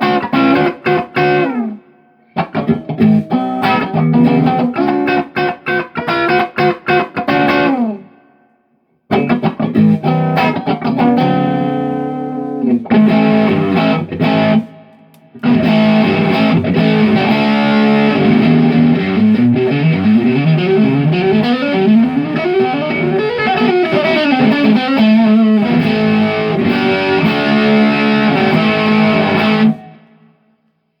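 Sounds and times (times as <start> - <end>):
distorted electric guitar: 0.0 - 8.2, 9.1 - 30.4.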